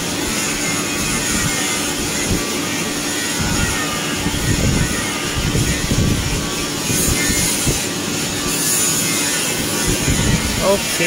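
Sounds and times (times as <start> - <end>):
blower air rushing: 0.0 - 11.0.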